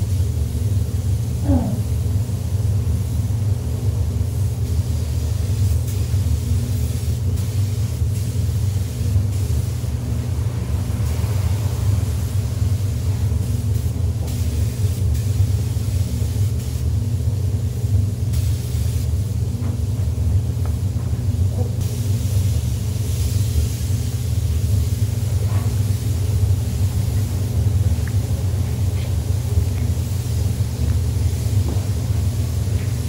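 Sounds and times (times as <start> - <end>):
spray gun hiss: 0.0 - 20.8, 21.8 - 33.0
ventilation rumble: 0.0 - 33.0.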